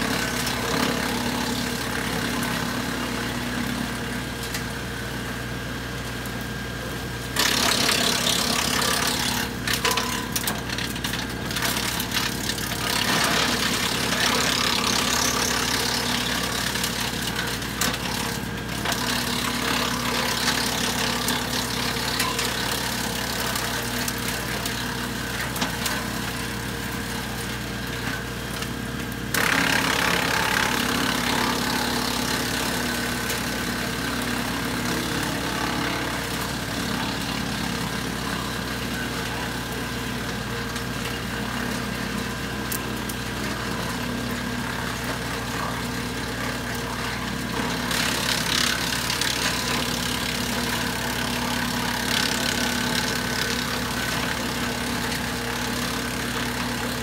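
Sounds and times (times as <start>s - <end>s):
wood chipper shredding branches: 0.0s - 57.0s.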